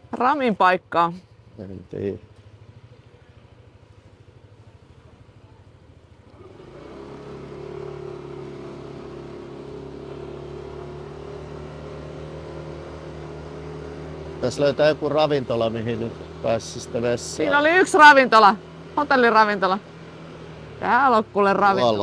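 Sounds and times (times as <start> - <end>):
motor scooter engine: 1.3 - 22.0.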